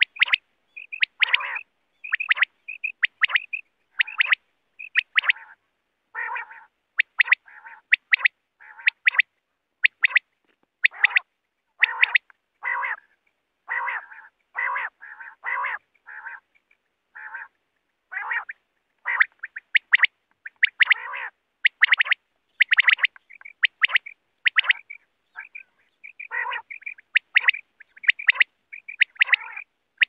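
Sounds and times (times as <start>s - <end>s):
quail calling: 0.0s - 16.5s, 17.1s - 30.0s.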